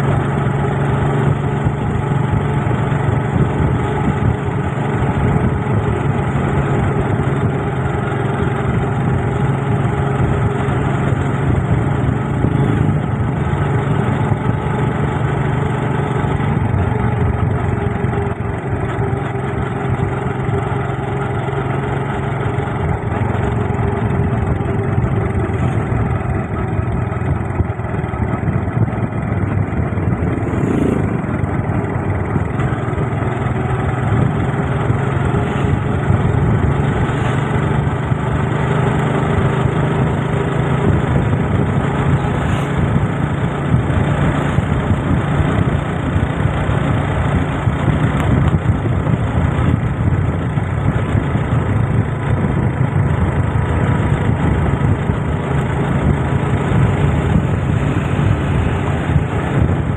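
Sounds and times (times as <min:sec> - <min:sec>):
motorcycle engine running: 0:00.0 - 0:59.9
wind and road rush: 0:00.0 - 0:59.9.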